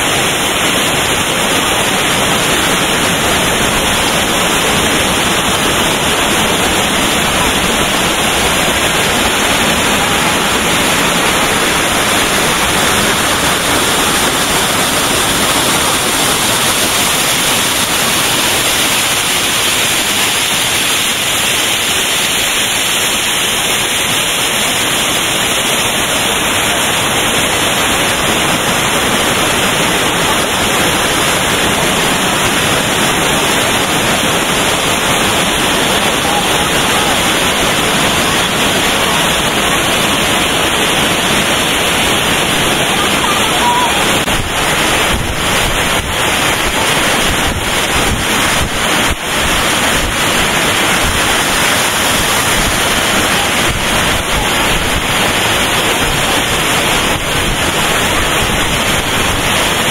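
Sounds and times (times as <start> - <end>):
waterfall rushing over rock: 0.0 - 59.9.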